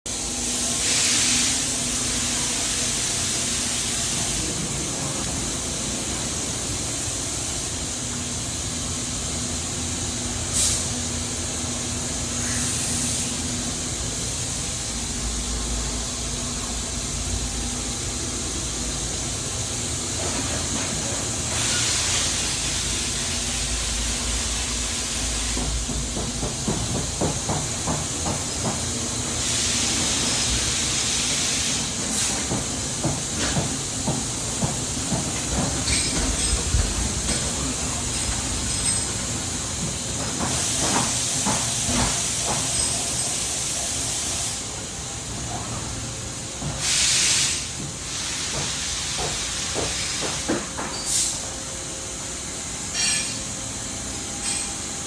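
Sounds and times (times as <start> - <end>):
machining center hissing: 0.1 - 55.0.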